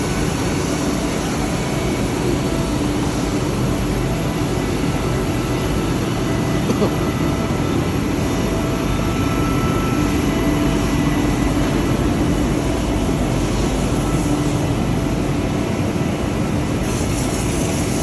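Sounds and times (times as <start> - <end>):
workshop machinery drone: 0.0 - 18.0.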